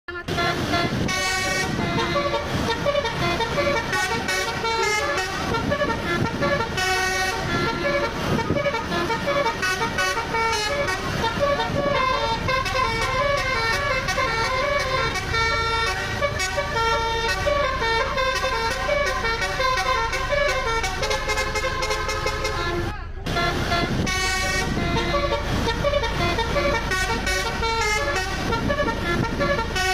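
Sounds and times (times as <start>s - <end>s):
bus horns playing melodies: 0.1s - 29.9s
low vehicle rumble: 0.1s - 29.9s.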